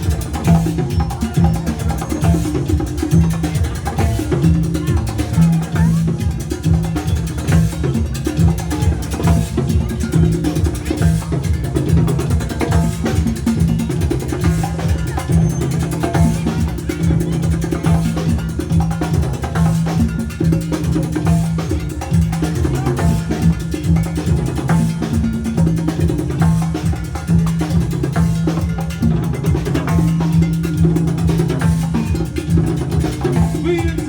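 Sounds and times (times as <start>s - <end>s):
drums and percussion beat: 0.0s - 34.0s.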